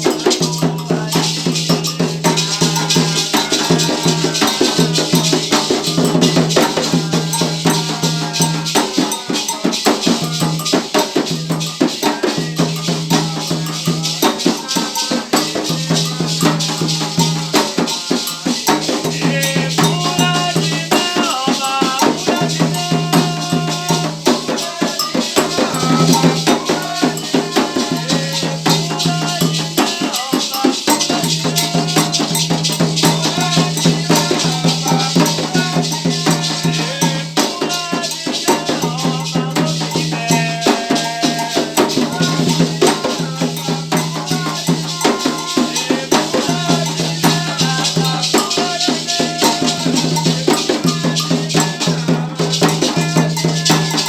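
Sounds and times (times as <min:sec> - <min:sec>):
drums playing: 0:00.0 - 0:54.0
shaken rattles: 0:00.0 - 0:54.0
voices chanting: 0:00.0 - 0:54.0.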